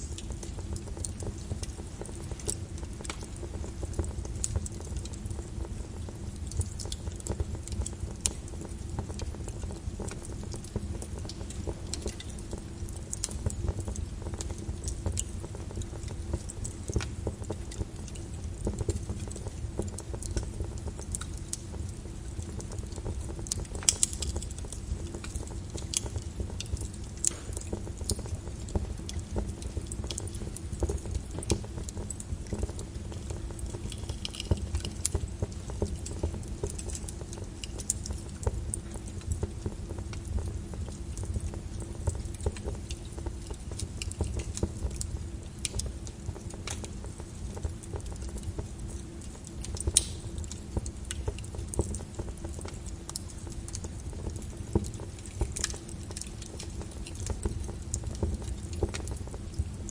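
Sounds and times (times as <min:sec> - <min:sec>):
lava crackling: 0:00.0 - 0:59.9.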